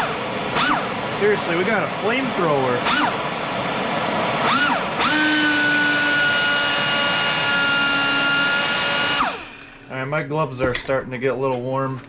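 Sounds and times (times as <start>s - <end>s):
pneumatic angle grinder whine: 0.0s - 9.9s.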